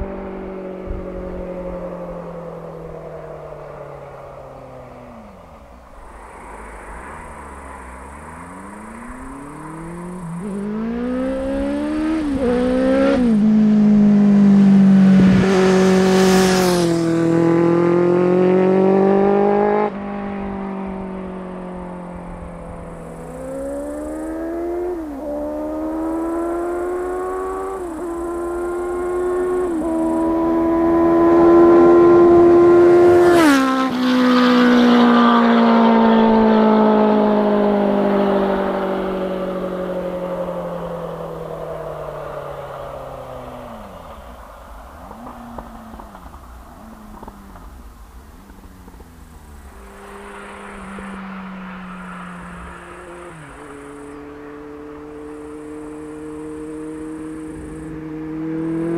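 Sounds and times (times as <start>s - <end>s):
motorcycle accelerating past: 0.0s - 58.9s.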